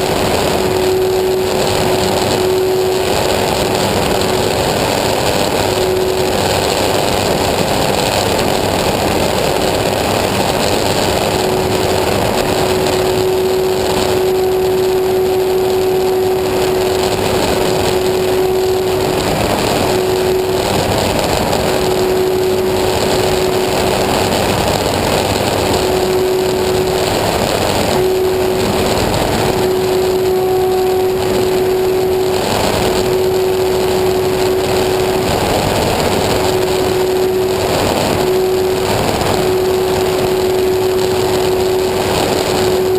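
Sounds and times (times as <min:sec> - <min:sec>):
small engine running loudly: 0:00.0 - 0:42.9.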